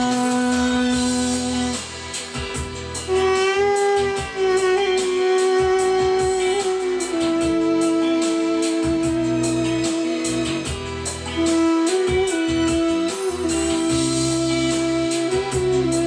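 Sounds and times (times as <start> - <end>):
duduk playing slow melody: 0.0 - 16.0
recorded accompaniment with bass and beat: 0.0 - 16.0.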